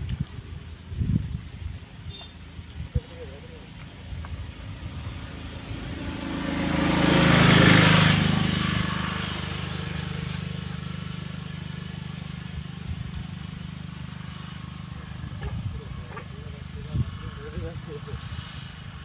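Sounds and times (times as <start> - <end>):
low engine hum: 0.0 - 19.0
motor vehicle passing: 0.6 - 19.0.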